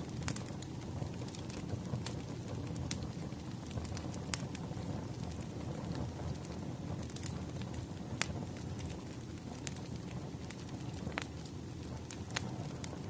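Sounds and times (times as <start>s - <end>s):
sharp pops of fire: 0.0s - 13.0s
wood fire crackling: 0.0s - 13.0s.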